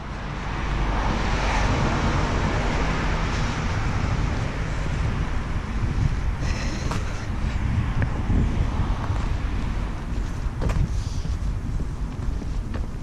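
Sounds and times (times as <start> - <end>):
rumbling road traffic: 0.0 - 13.0.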